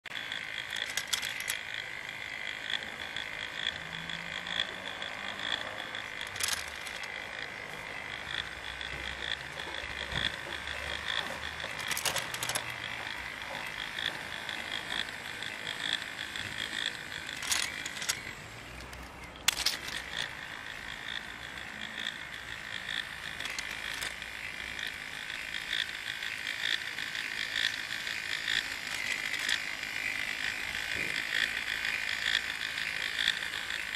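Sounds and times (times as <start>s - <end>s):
plastic gears and motor whirring: 0.1s - 33.9s
sharp clicks: 0.1s - 33.9s.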